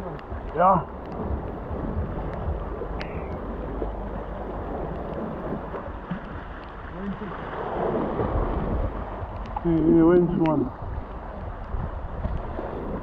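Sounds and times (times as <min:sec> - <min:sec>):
sea waves washing against rocks: 0:00.0 - 0:13.0
wind buffeting microphone: 0:00.0 - 0:13.0.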